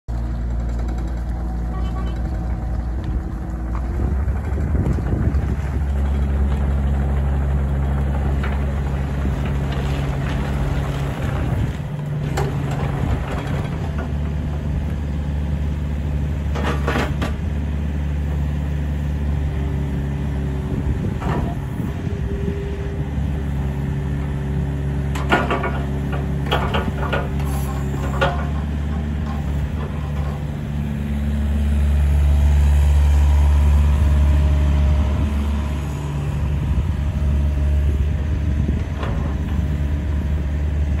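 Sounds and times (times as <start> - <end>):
excavator diesel engine running: 0.1 - 41.0.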